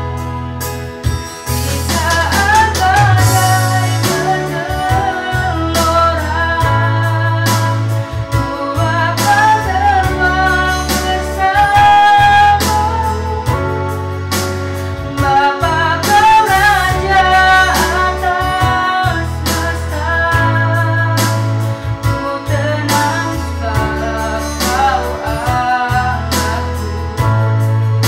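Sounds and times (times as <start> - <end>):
guitar and bass with beat: 0.0 - 28.0
woman singing worship song: 1.6 - 28.0.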